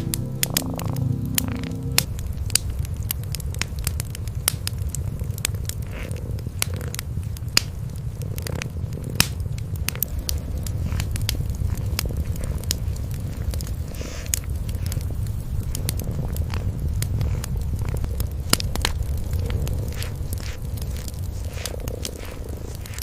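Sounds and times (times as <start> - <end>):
cats purring: 0.0 - 23.0
wood fire crackling: 0.0 - 23.0.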